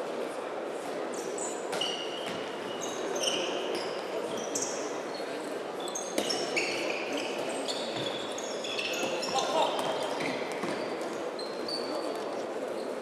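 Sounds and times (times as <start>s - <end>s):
shoes squeaking on court floor: 1.1s - 13.0s.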